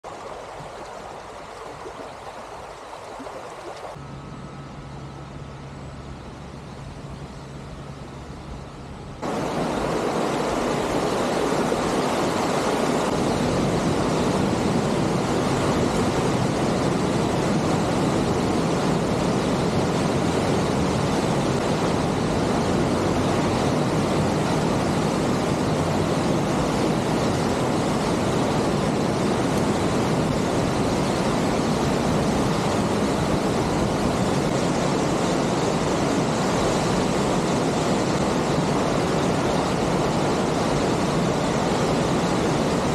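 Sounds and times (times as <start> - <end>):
mountain stream rushing: 0.0 - 4.0, 9.2 - 42.9.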